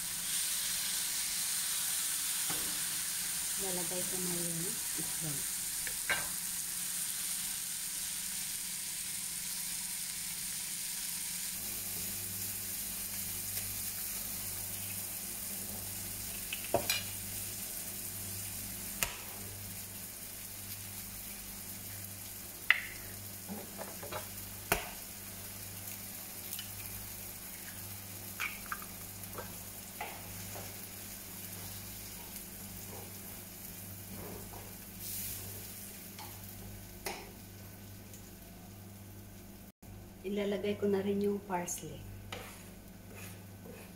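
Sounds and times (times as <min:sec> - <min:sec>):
vegetables sizzling in oil: 0:00.0 - 0:39.7, 0:40.8 - 0:43.9.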